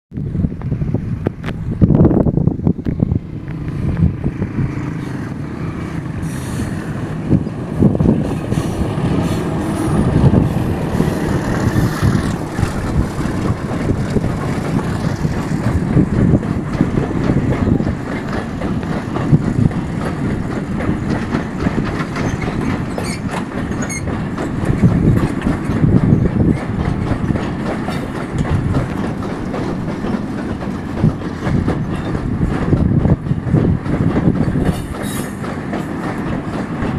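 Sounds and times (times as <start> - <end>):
diesel locomotive passing: 0.2 - 36.9
train wheels clattering over rail joints: 2.8 - 36.9.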